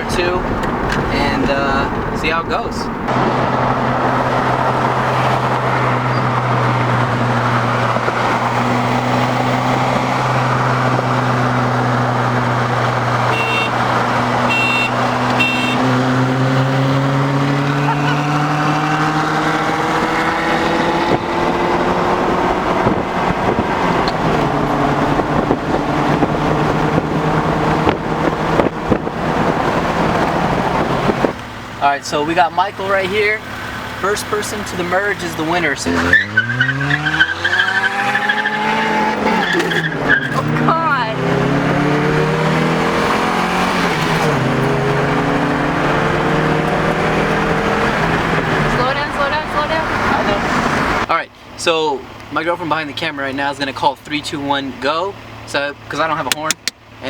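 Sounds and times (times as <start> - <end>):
car engine accelerating: 0.0 - 51.1
road and wind noise: 0.0 - 57.0.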